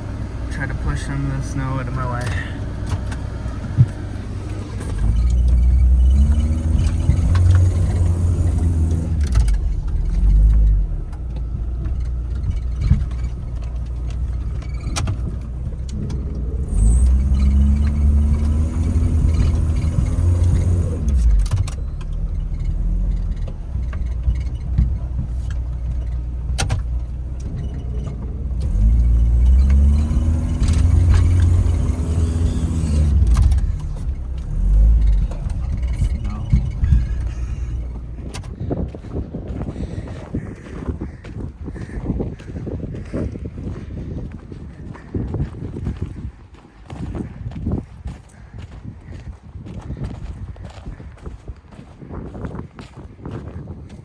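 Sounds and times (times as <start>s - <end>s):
engine revving: 0.0s - 43.4s.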